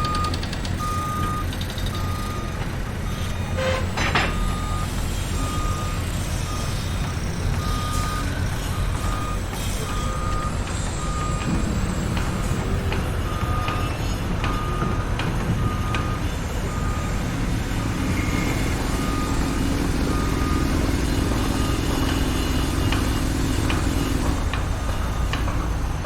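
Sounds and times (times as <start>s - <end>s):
construction vehicle running: 0.0s - 26.0s
engine drone: 0.0s - 26.0s
reversing alarm beeping: 0.0s - 26.0s.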